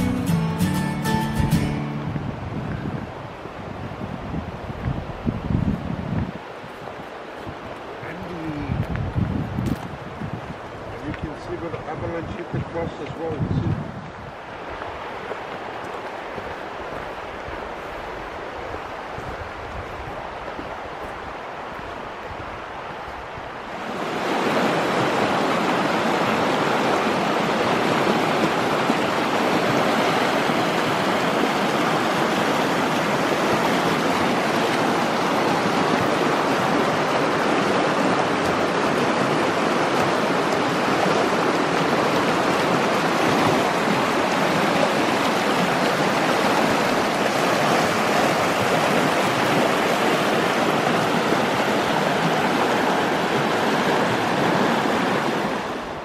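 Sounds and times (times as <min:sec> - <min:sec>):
river rushing over gravel: 0:00.0 - 0:56.0.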